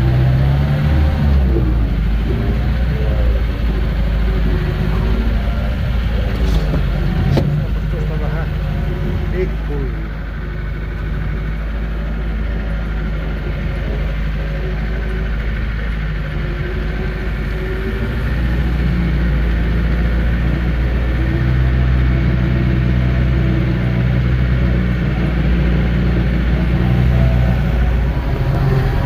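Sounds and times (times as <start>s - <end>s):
machine engine running: 0.0s - 29.0s.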